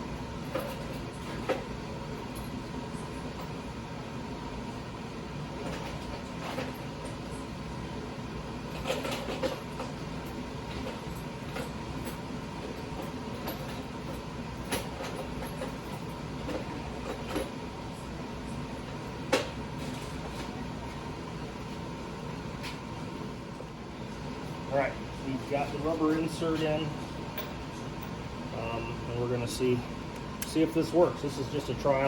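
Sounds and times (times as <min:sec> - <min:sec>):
heater humming: 0:00.0 - 0:32.0.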